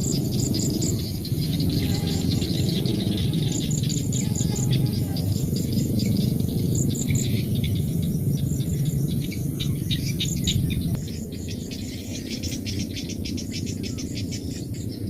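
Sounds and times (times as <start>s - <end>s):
insects and birds chirping: 0.0s - 15.0s
low rumbling noise: 0.0s - 15.0s.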